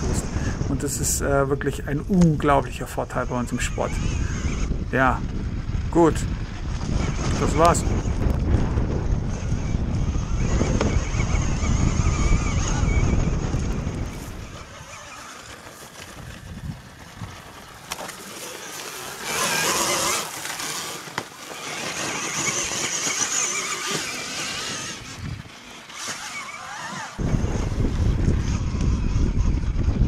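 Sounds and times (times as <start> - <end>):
electric motor whine: 0.0 - 30.0
electric motorcycle passing on grass: 0.0 - 30.0.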